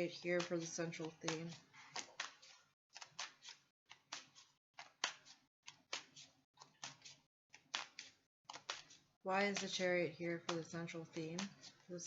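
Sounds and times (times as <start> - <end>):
cards being shuffled: 0.0 - 11.9.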